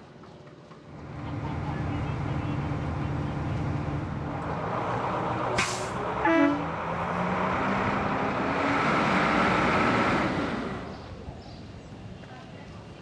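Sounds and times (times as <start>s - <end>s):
large vehicle engine running: 0.8s - 13.0s.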